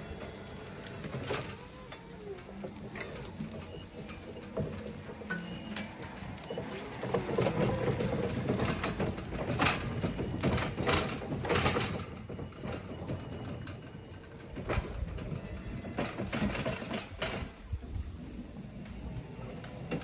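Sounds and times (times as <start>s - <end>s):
forklift engine running under load: 0.0s - 20.0s.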